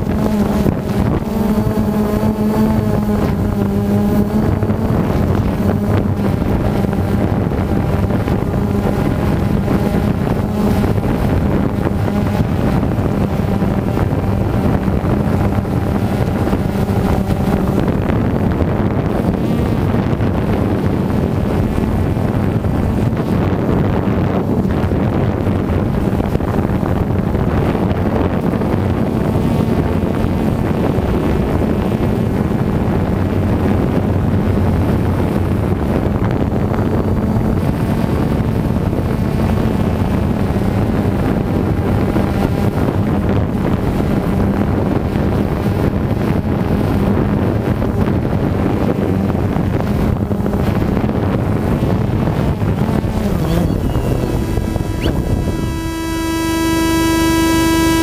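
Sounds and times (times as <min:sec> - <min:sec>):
drone motors and propellers humming: 0:00.0 - 0:58.0
wind buffeting microphone: 0:00.0 - 0:58.0.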